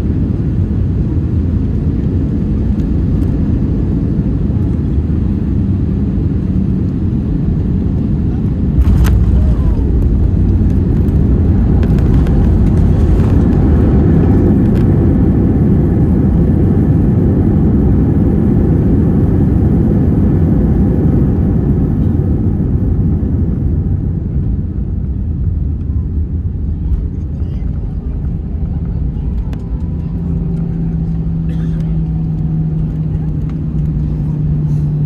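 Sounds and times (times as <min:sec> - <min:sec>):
jet engine reverse thrust rumble: 0:00.0 - 0:35.0.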